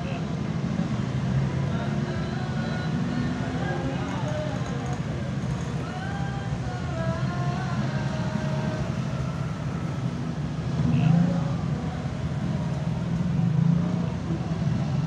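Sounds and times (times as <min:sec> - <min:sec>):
cars driving past: 0:00.0 - 0:15.0
low traffic rumble: 0:00.0 - 0:15.0.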